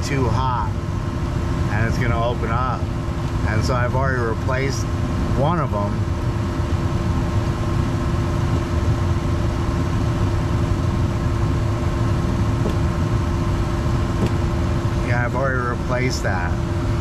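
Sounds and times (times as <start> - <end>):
constant hum: 0.0 - 17.0
furnace burner rumble: 0.0 - 17.0.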